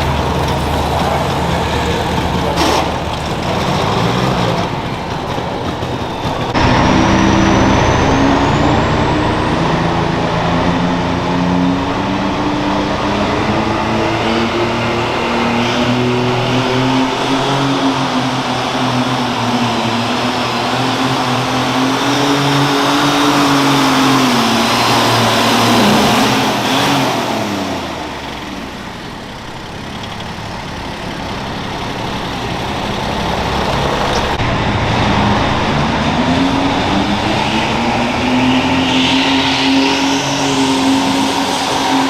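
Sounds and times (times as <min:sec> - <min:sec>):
garden tractor engine under load: 0:00.0 - 0:42.0.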